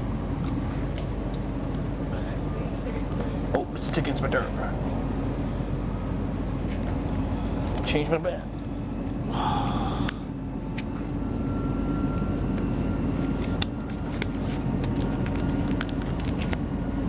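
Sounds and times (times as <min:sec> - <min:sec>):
faint high whine: 0:00.0 - 0:17.0
train rumbling in motion: 0:00.0 - 0:17.0.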